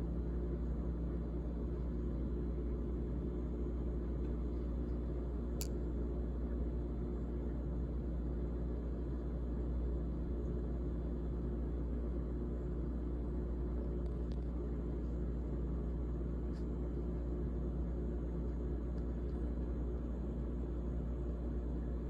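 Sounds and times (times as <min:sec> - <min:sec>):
refrigerator humming: 0:00.0 - 0:22.0.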